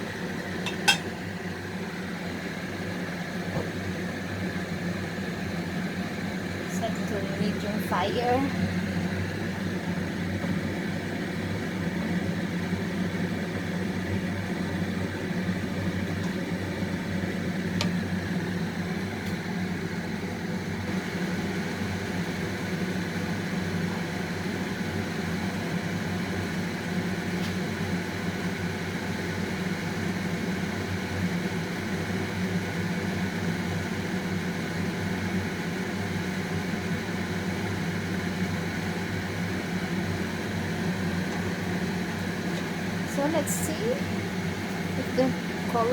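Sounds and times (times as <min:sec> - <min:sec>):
exhaust fan humming: 0:00.0 - 0:45.9.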